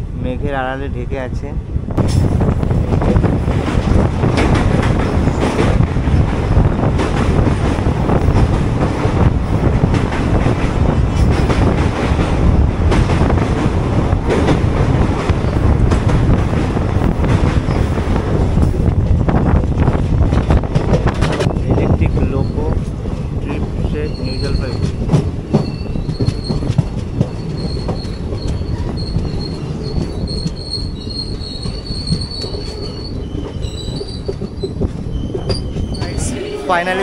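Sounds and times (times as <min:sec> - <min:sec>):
train rumble: 0:00.0 - 0:37.0
train wheels clattering: 0:02.0 - 0:36.4.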